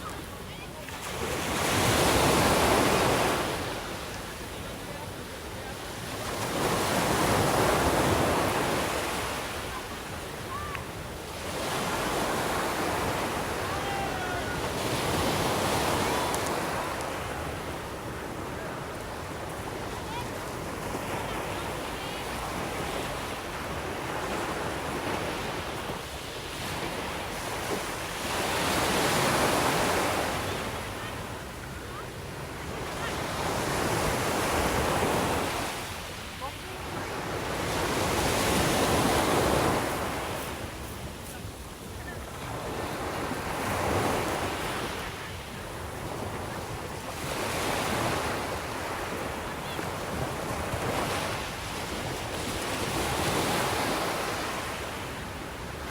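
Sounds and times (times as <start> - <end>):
sea waves breaking on shore: 0.0 - 55.9.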